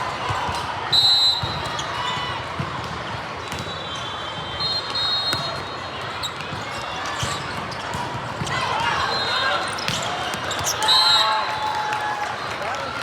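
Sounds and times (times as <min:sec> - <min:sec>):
hubbub of voices: 0:00.0 - 0:13.0.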